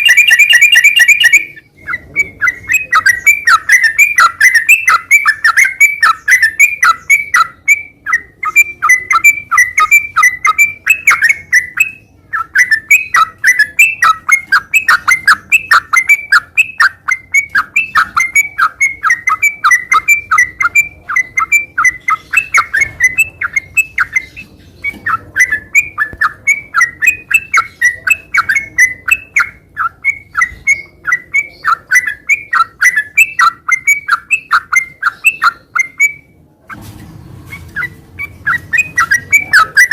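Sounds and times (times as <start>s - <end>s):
bird singing rapid chirps: 0.0s - 36.4s, 37.5s - 39.9s.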